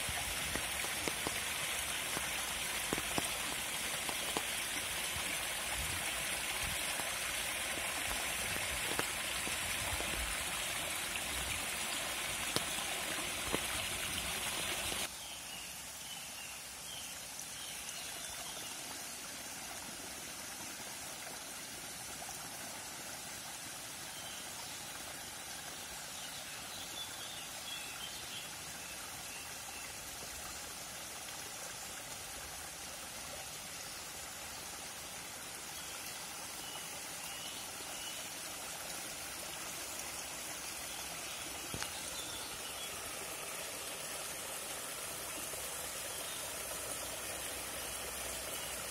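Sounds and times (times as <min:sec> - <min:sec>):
stream splashing over rocks: 0:00.0 - 0:15.2, 0:17.6 - 0:48.9
water trickling over stones: 0:00.0 - 0:16.0, 0:16.6 - 0:48.9.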